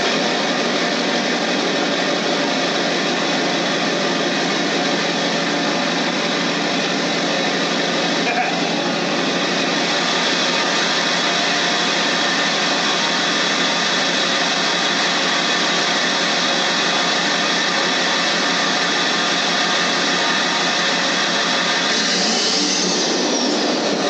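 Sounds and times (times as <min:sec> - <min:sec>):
engine droning steadily: 0:00.0 - 0:24.0.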